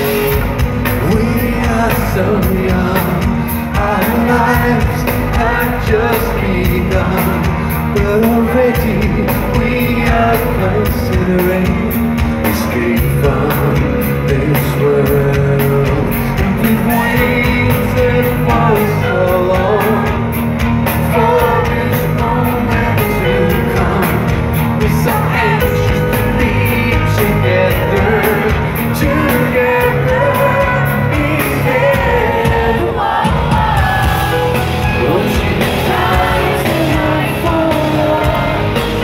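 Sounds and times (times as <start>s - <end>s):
rock band playing: 0.0s - 39.0s
singer singing into microphone: 0.0s - 39.0s
steady drum beat: 0.0s - 39.0s.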